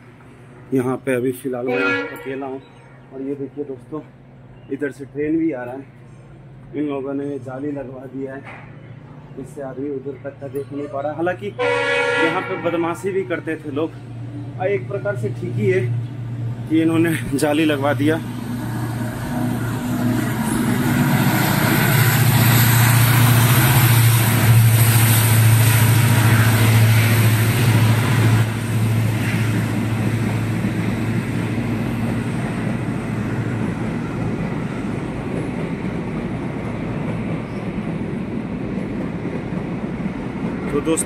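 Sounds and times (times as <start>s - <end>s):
diesel locomotive engine drone: 0.0s - 41.0s
rumble of wheels on track: 0.0s - 41.0s.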